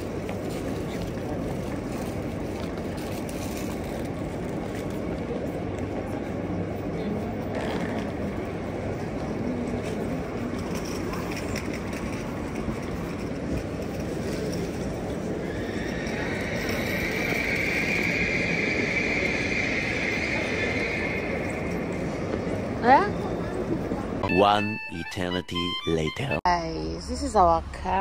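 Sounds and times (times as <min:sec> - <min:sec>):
faint voices: 0:00.0 - 0:28.0.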